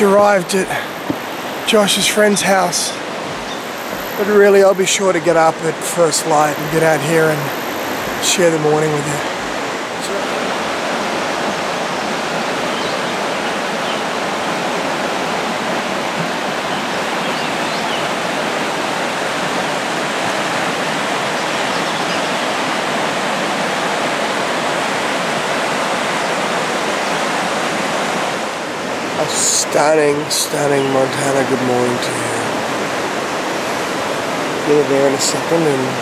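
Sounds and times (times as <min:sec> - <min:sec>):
river rushing over rocks: 0:00.0 - 0:36.0.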